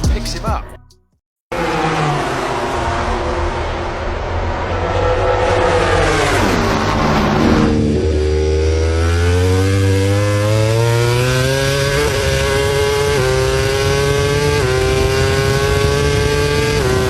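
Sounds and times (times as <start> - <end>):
motorcycle engine accelerating: 1.5 - 17.0.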